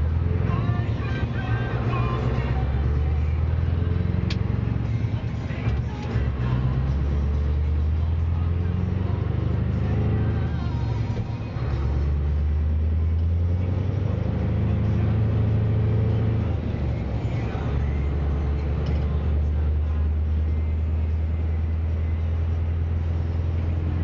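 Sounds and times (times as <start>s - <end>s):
truck diesel engine under load: 0.0s - 24.0s.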